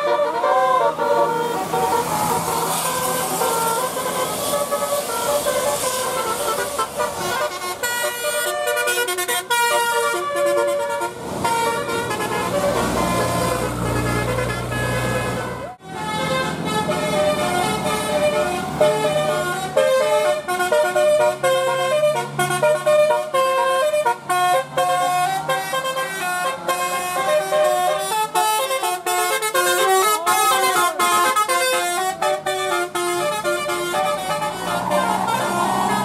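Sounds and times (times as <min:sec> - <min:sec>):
multi-tone bus horn melody: 0:00.0 - 0:36.0.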